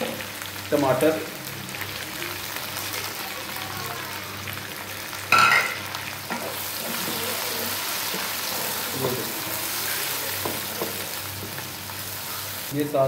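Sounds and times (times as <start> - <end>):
food frying sizzle: 0.0 - 13.0.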